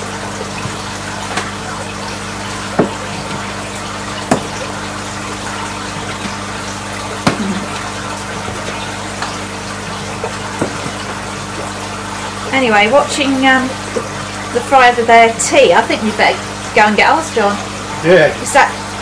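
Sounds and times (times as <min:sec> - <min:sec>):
low electrical hum: 0:00.0 - 0:19.0
water running and splashing: 0:00.0 - 0:19.0.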